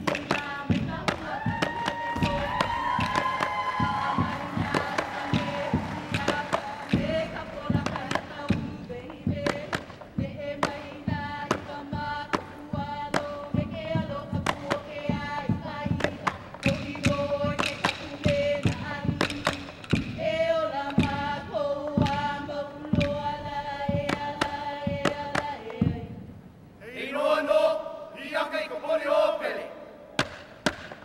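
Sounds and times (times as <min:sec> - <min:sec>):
sharp percussion strikes: 0:00.0 - 0:25.5.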